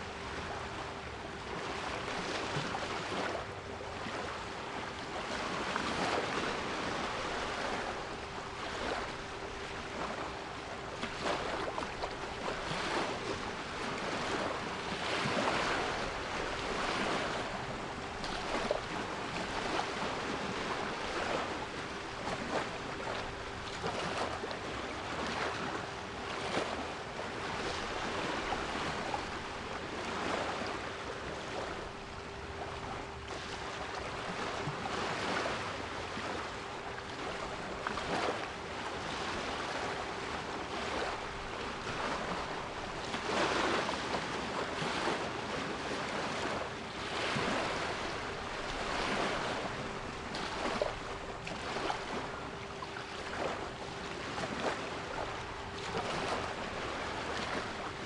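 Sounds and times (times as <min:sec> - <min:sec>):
sea waves washing: 0:05.0 - 0:58.0.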